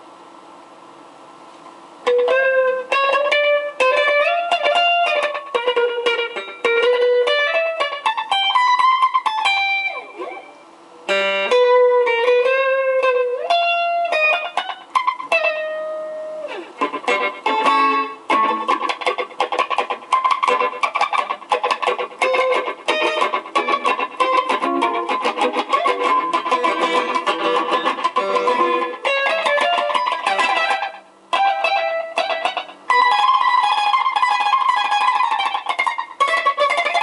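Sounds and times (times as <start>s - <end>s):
electric guitar melody with delay: 2.0s - 37.0s.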